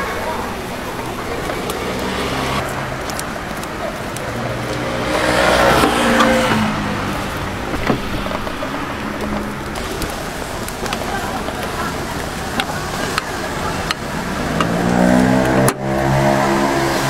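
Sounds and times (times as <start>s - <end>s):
street traffic: 0.0s - 17.0s
vehicle engine passing: 0.0s - 17.0s.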